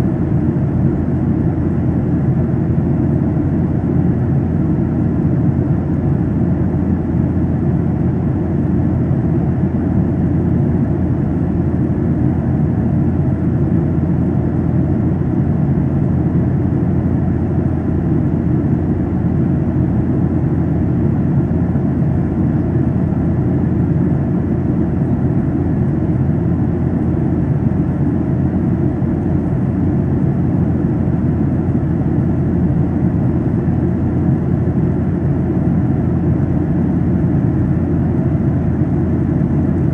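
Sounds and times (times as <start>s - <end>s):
airplane cabin noise in flight: 0.0s - 39.9s.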